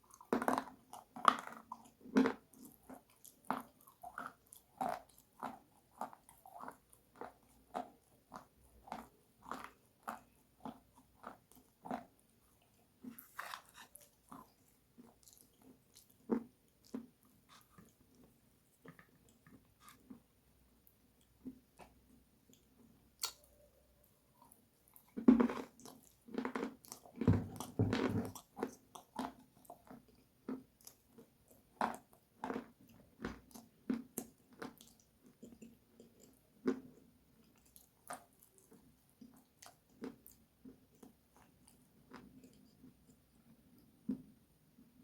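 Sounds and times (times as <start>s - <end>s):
crunchy food chewing: 0.0s - 20.3s, 24.4s - 44.2s.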